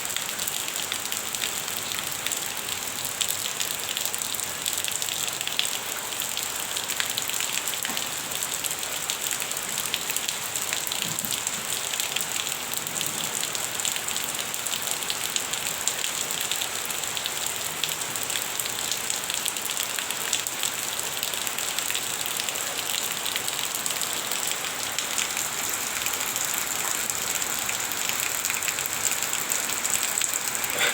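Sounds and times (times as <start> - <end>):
light rain pattering: 0.0 - 30.9.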